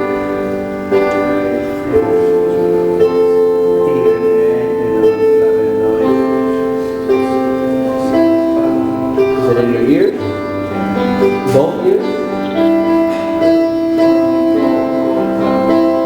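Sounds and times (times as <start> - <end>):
keyboard chords worship music: 0.0 - 16.0.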